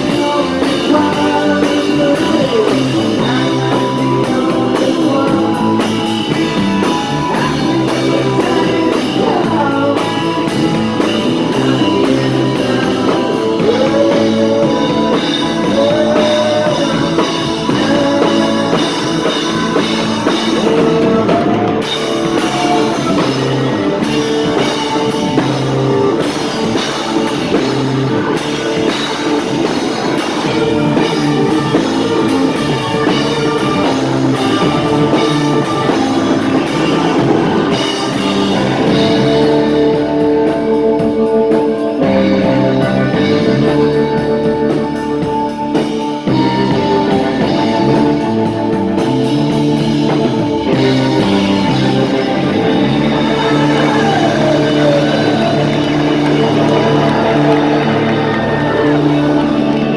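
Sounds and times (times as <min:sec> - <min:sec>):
drum kit: 0:00.0 - 0:59.9
guitars: 0:00.0 - 0:59.9
live rock band: 0:00.0 - 0:59.9
person singing: 0:00.0 - 0:59.9.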